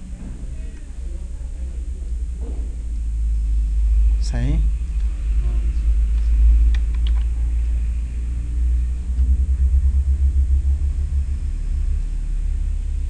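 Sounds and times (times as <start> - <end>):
low pulsing rumble: 0.0 - 13.0.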